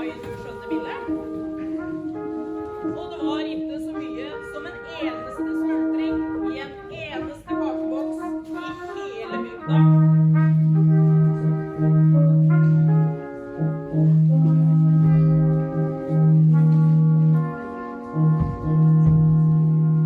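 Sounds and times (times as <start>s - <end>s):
brass quartet playing chords: 0.0s - 20.0s.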